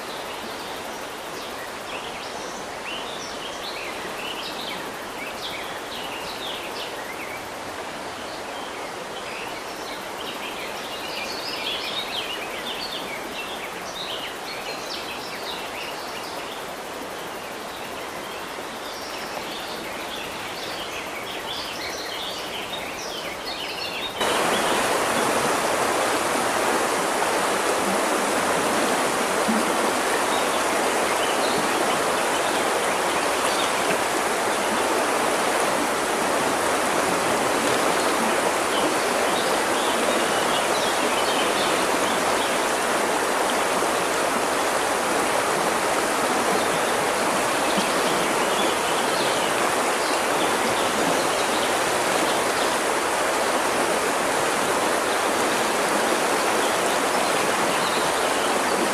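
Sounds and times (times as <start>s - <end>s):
river water flowing: 0.0s - 58.9s
rushing water: 0.0s - 58.9s.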